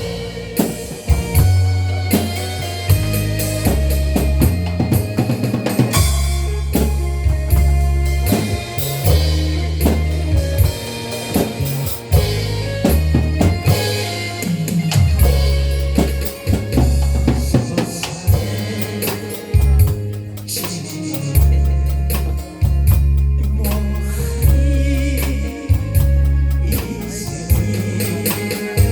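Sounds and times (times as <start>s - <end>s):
drum kit beat: 0.0s - 28.9s
heavy bass line: 0.0s - 28.9s
instrumental melody: 0.0s - 28.9s.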